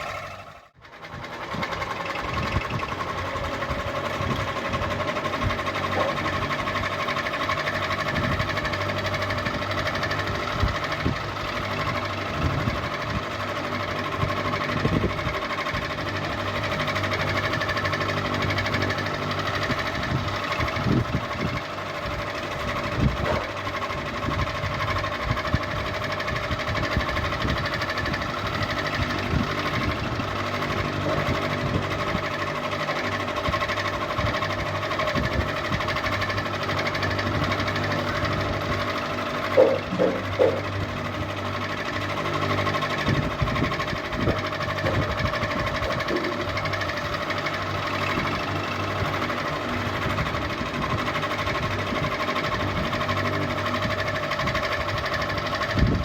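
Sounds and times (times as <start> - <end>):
ceiling fan motor hum: 1.1 - 56.0.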